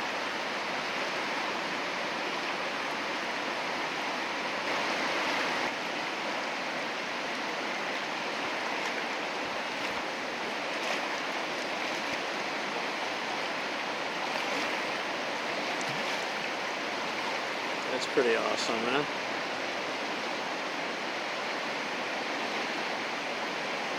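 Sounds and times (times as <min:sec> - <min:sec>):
river rapids rushing: 0:00.0 - 0:23.9.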